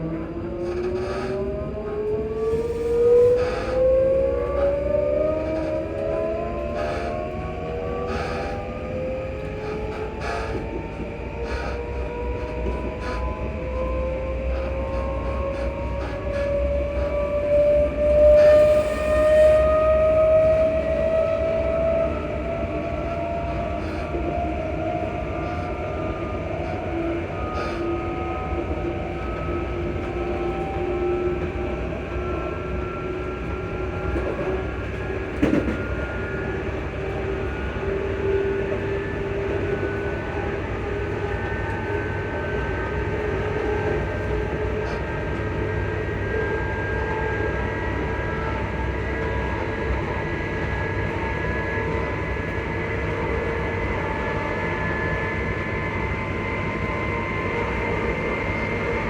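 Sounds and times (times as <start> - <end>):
electric train motors whining: 0.0 - 59.0
train running gear rumble: 0.0 - 59.0.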